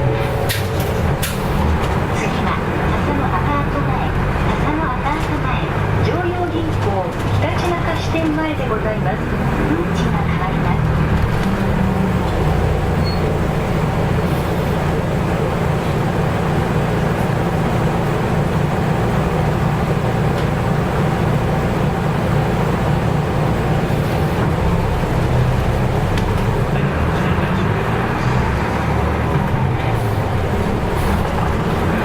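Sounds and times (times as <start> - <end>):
road and body noise: 0.0 - 18.9, 22.3 - 32.0
bus diesel engine hum: 0.0 - 32.0.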